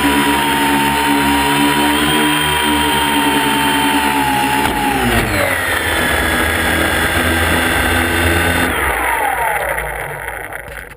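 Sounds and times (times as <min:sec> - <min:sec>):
drone motors whining: 0:00.0 - 0:10.9.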